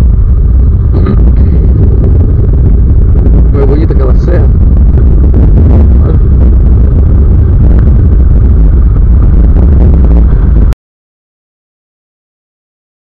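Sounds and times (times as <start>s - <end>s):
motorcycle engine running: 0.0s - 10.8s
wind noise on microphone: 0.0s - 10.8s.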